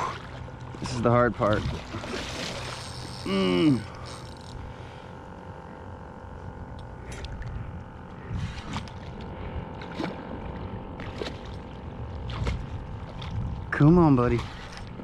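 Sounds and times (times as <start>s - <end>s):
water lapping against paddleboard: 0.0s - 5.0s, 7.0s - 15.0s
low steady rumble: 0.0s - 15.0s.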